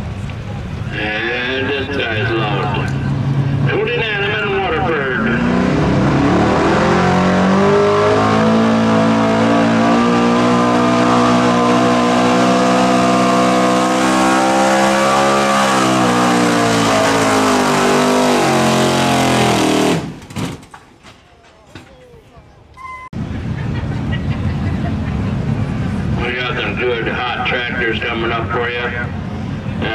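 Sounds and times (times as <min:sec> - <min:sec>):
truck engine at full throttle: 0:00.0 - 0:20.4, 0:23.2 - 0:29.9.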